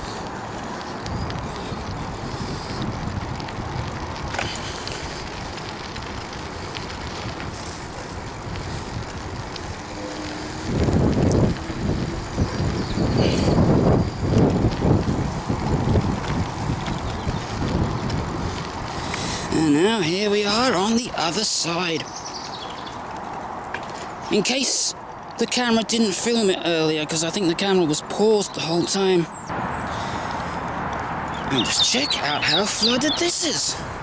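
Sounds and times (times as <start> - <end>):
wind buffeting microphone: 0.0 - 26.8, 29.3 - 34.0.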